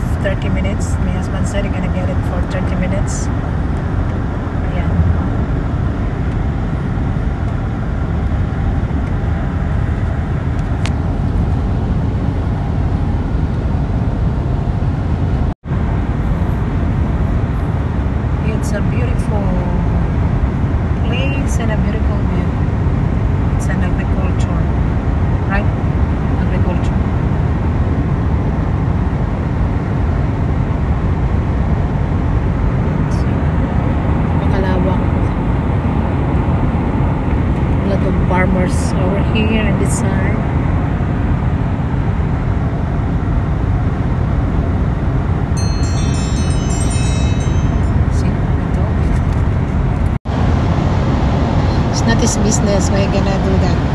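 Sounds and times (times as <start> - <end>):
car cabin road noise: 0.0 - 53.9.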